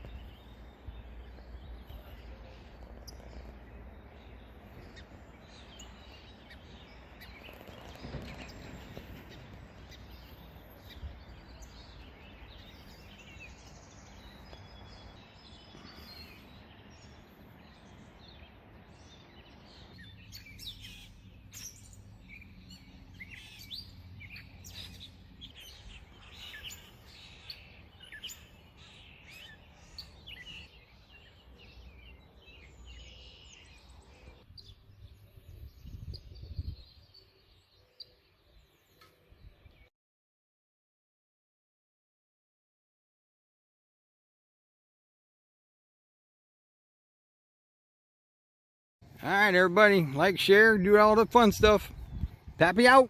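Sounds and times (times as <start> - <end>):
songbirds chirping and singing: 0.0 - 39.9, 49.0 - 53.0.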